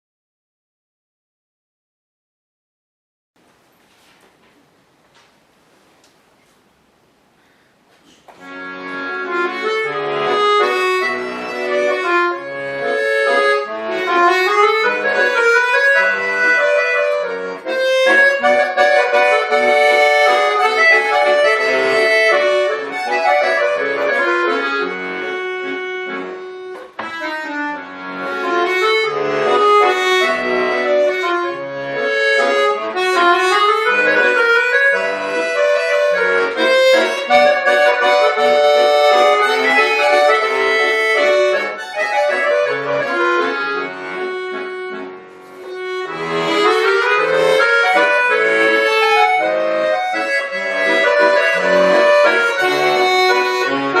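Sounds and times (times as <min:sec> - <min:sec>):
button accordion solo: 0:08.0 - 0:54.0.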